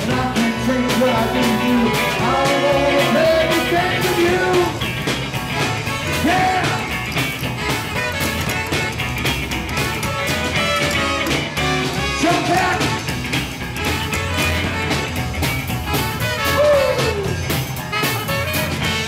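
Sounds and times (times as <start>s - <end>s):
swing band playing: 0.0s - 19.0s.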